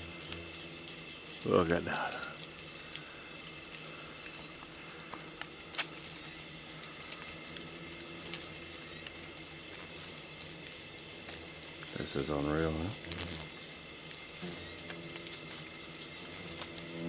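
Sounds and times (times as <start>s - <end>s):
beetle swarm buzzing: 0.0s - 17.0s
night insects trilling: 0.0s - 17.0s.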